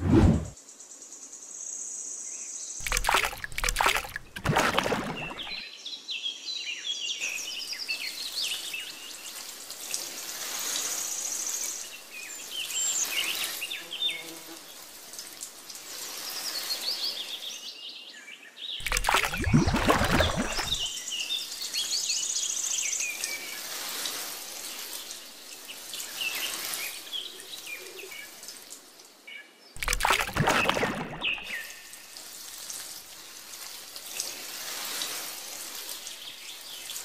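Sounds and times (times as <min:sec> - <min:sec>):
water trickling onto sand: 0:02.8 - 0:05.6, 0:07.3 - 0:17.4, 0:18.8 - 0:29.2, 0:29.8 - 0:37.0.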